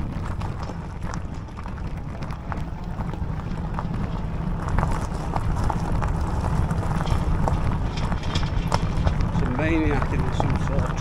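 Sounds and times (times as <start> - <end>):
stones clicking under wheels: 0.0 - 11.0
tyres rolling over gravel: 0.0 - 11.0
wind rumble on microphone: 0.0 - 11.0.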